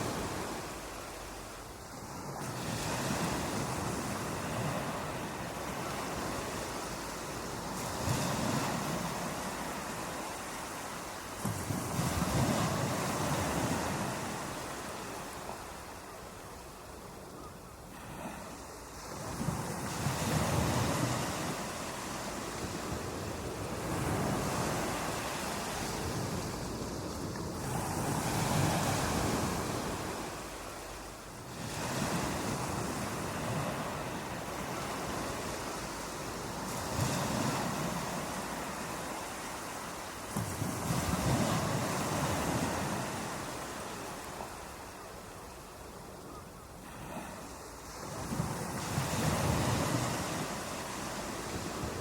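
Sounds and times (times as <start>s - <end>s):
ocean waves breaking: 0.0s - 17.2s, 17.8s - 45.0s, 46.8s - 52.0s.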